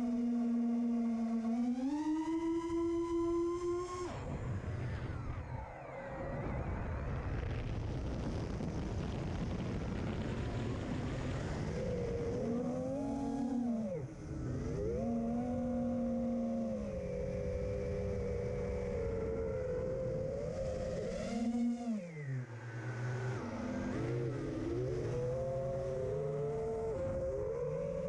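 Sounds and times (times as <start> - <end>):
drone motors whining: 0.0 - 7.7, 10.8 - 28.0
steady rushing noise: 3.7 - 28.0.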